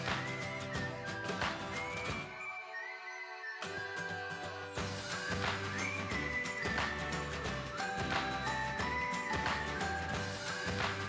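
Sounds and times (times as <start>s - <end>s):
melody over a beat: 0.0s - 2.4s, 3.6s - 11.0s.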